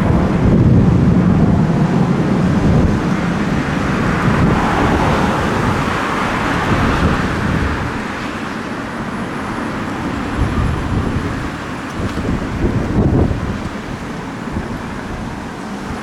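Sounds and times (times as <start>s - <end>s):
military jet engine: 0.0s - 16.0s
wind buffeting microphone: 0.0s - 16.0s.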